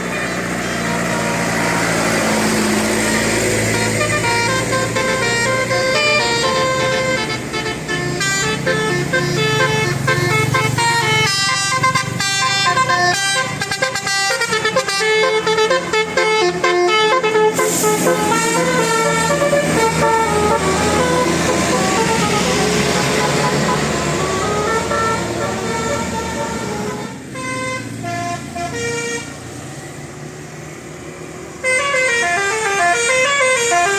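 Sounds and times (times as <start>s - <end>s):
musical air horn melody: 0.8s - 29.3s, 31.6s - 33.9s.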